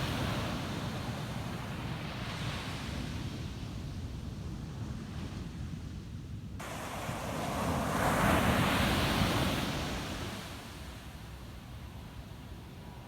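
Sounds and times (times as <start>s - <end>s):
ocean waves on a beach: 0.0s - 13.0s.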